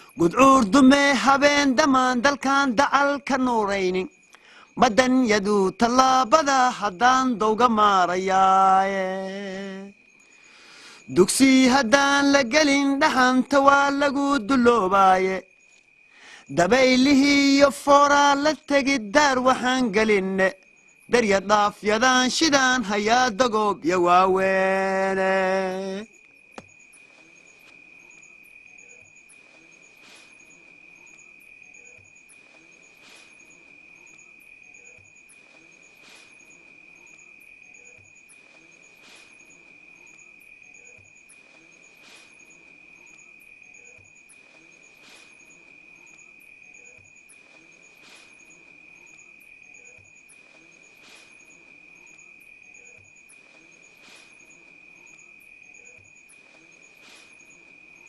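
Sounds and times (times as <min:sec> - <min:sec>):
insect high trill: 0:00.0 - 0:58.0
sharp insect click: 0:00.0 - 0:58.0
short insect chirps: 0:00.0 - 0:58.0.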